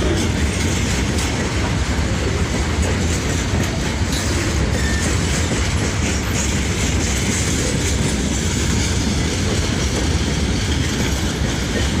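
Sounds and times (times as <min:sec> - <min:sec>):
train wagon wheels rumbling on rails: 0:00.0 - 0:12.0.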